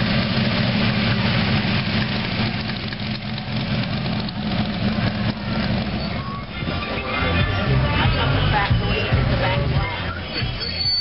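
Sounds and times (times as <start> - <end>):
truck engine rumbling past: 0.0 - 11.0.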